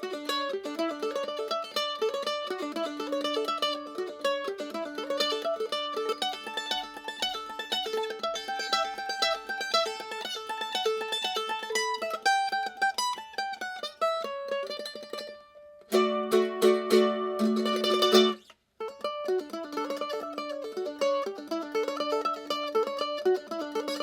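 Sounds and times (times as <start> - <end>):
mandolin single-note melody: 0.0 - 24.0
mandolin strummed chords: 0.0 - 24.0.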